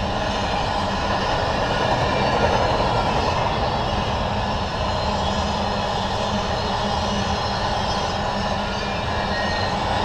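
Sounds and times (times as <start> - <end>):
freight train wheels on rails: 0.0 - 10.0.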